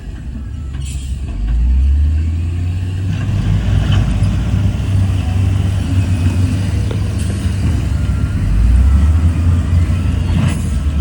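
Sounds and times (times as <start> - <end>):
heavy diesel engine rumble: 0.0 - 11.0.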